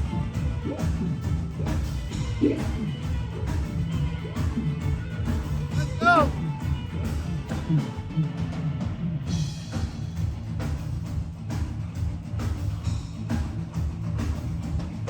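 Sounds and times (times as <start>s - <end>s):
live band music: 0.0s - 14.8s.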